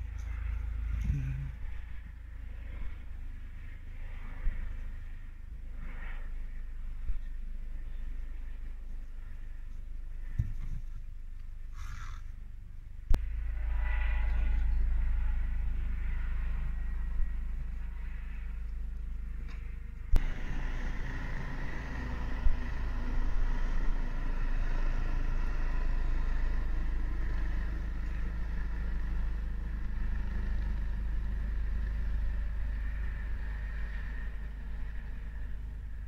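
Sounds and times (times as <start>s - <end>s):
helicopter rotor and engine drone: 0.0s - 11.0s, 13.2s - 36.0s
faint steady whine: 0.0s - 36.0s.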